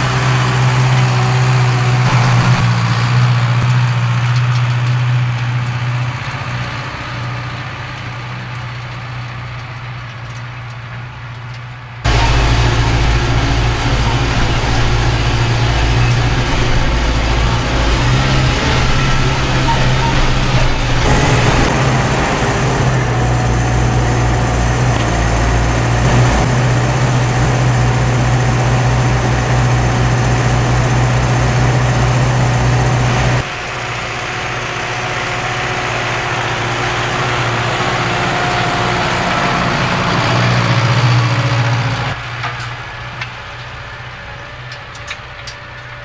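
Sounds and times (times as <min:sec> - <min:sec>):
tractor engine from inside cab: 0:00.0 - 0:46.0
tractor heard from outside: 0:00.0 - 0:46.0.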